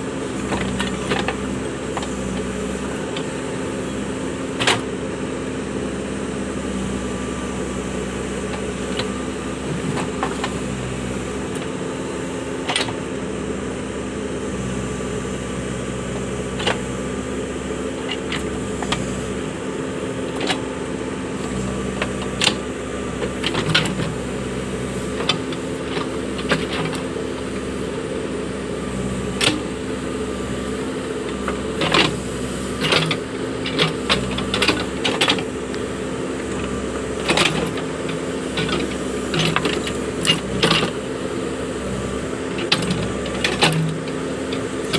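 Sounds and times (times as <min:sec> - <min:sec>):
backhoe engine droning: 0:00.0 - 0:44.9.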